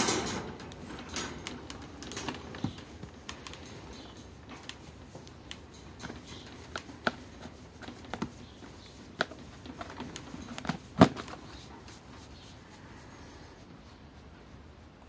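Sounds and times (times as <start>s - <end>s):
hand tapping wire cage bars: 0.0s - 12.3s.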